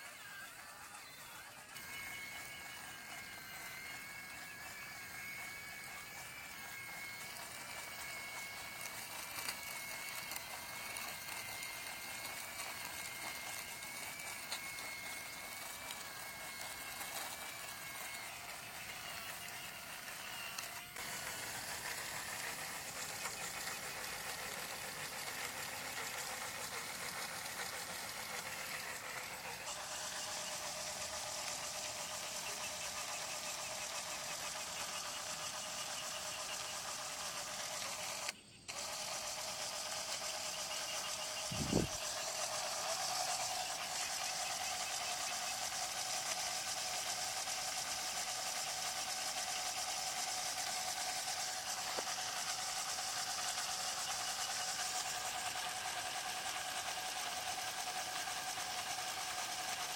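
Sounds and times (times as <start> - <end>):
small motor whining: 0.0 - 59.9.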